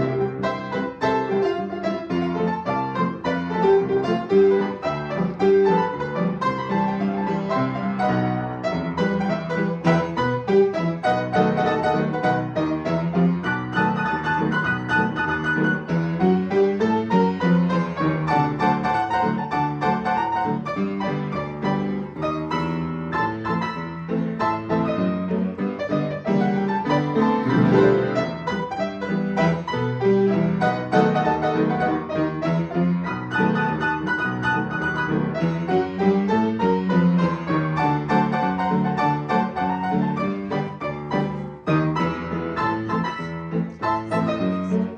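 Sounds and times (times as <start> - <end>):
lively solo piano: 0.0 - 44.9.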